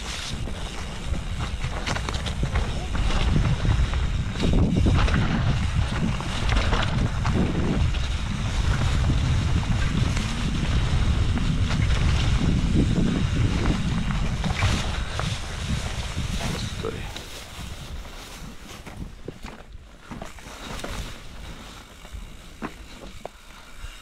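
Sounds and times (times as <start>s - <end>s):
wind buffeting microphone: 0.0s - 23.2s
scattered crackles: 0.0s - 24.0s.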